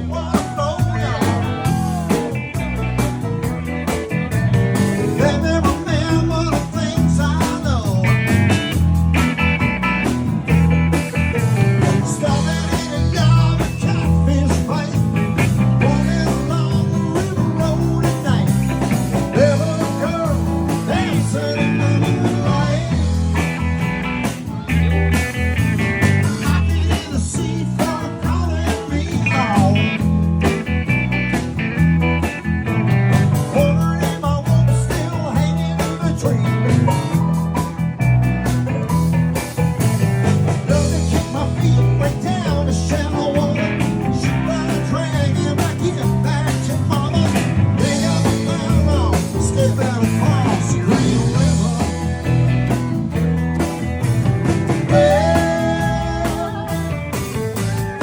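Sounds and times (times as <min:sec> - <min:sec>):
electric guitar lead lines: 0:00.0 - 0:58.0
live blues-rock band playing: 0:00.0 - 0:58.0.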